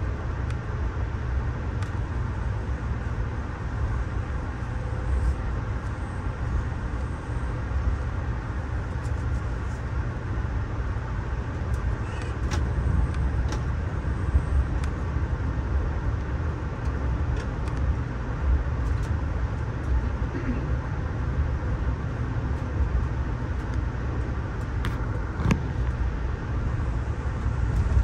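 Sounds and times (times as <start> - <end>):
train coach rumbling at speed: 0.0 - 28.0.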